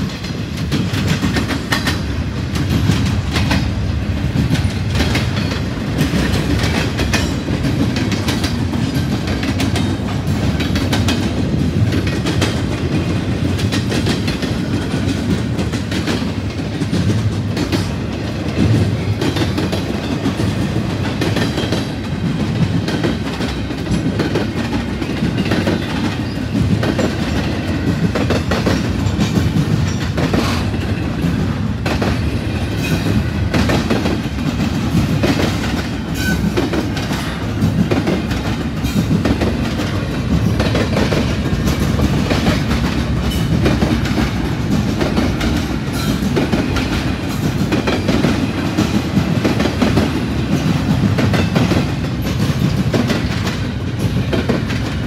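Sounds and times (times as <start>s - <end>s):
freight train wagons rumbling: 0.0s - 55.0s
wheels clacking over rail joints: 0.0s - 55.0s.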